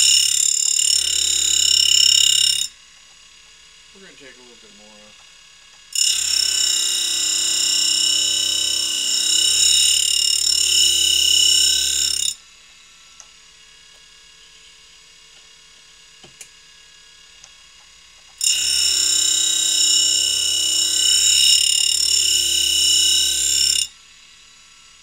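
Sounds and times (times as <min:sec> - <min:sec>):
grinder high-pitched whine: 0:00.0 - 0:25.0.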